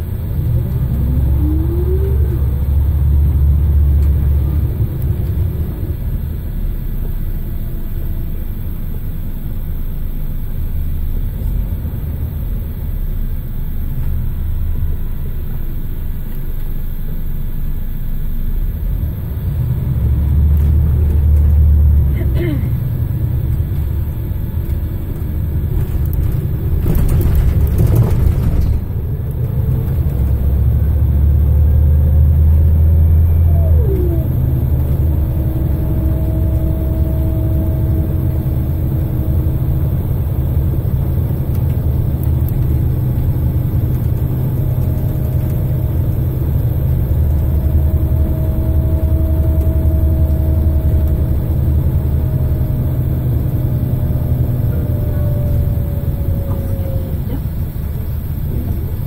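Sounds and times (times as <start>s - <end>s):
bus engine rumble: 0.0s - 59.0s
gearbox whine: 0.0s - 59.0s.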